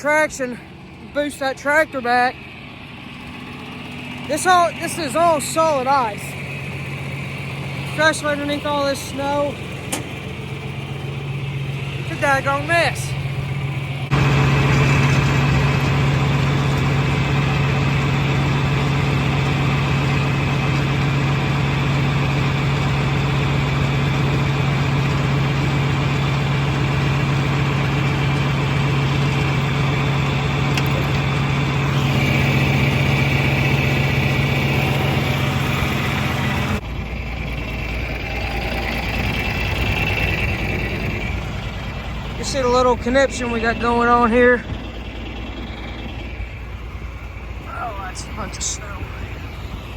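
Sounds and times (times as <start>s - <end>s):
quieter engine sound: 0.0s - 49.9s
tractor engine running: 0.0s - 49.9s.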